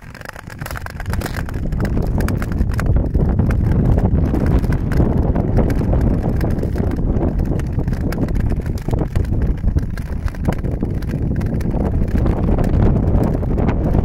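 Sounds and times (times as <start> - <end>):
ice skates gliding on ice: 0.0 - 14.0
wind rumble on microphone: 0.0 - 14.0.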